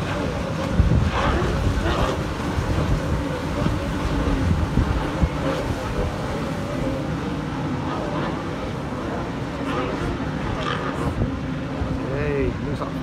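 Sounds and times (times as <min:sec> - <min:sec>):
boat engines droning: 0:00.0 - 0:13.0
wind buffeting microphone: 0:00.0 - 0:13.0.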